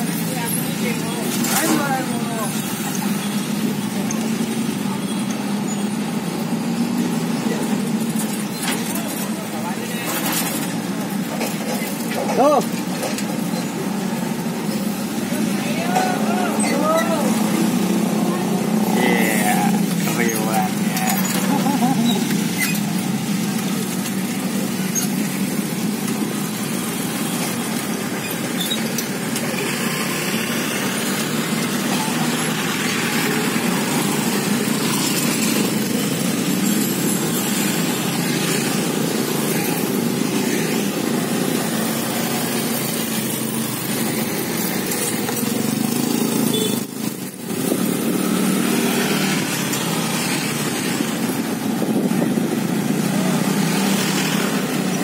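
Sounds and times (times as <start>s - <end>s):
motorcycle and scooter engines passing: 0.0s - 55.0s.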